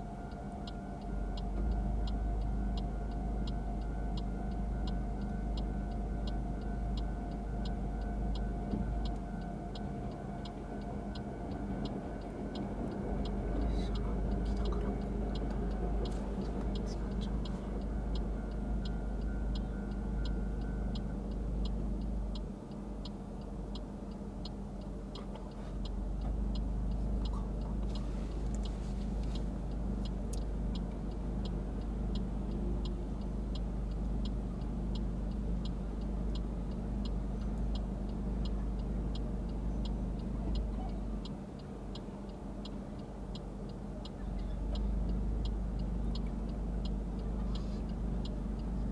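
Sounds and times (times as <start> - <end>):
car engine idling: 0.0 - 48.9
turn-signal relay ticking: 0.0 - 48.9.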